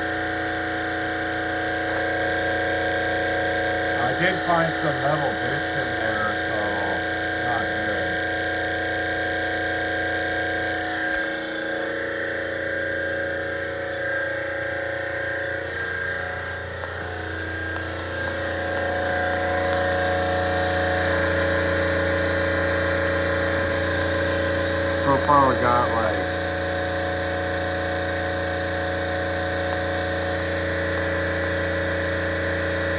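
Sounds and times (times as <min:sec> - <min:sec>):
refrigeration compressor humming: 0:00.0 - 0:32.9.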